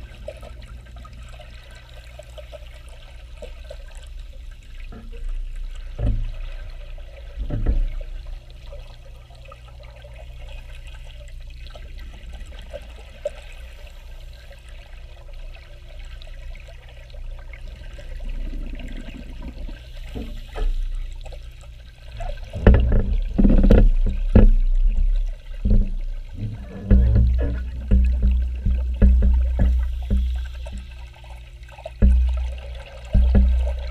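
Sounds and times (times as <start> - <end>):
exhaust bubbling underwater: 0.0 - 33.9
underwater gurgles: 0.0 - 33.9
underwater low rumble: 0.0 - 33.9.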